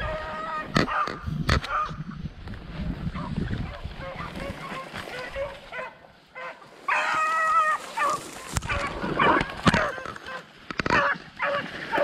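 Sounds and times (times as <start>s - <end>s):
hounds baying: 0.0s - 2.0s, 3.2s - 12.0s.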